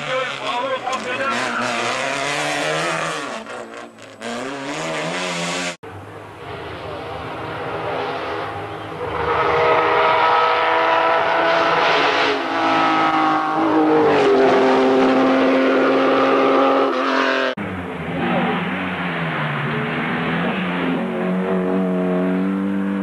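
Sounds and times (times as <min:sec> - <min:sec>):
rally car engine approaching: 0:00.0 - 0:23.0
rally car engine revving: 0:00.0 - 0:23.0.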